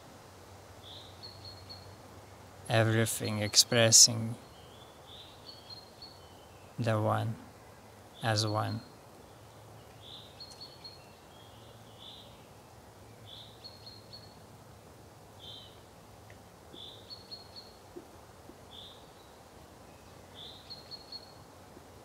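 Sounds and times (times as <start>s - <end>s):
faint bird chirps and trills: 0.8s - 14.5s, 15.3s - 22.0s.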